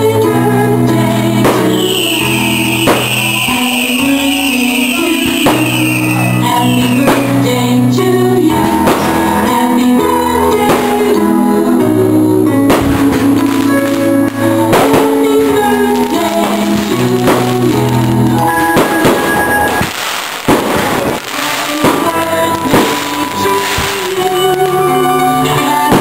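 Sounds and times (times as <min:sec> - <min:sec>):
music with sustained chords: 0:00.0 - 0:26.0.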